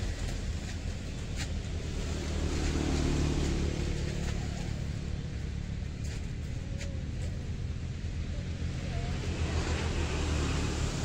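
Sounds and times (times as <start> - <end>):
passing vehicle engine hum: 0.0 - 11.0.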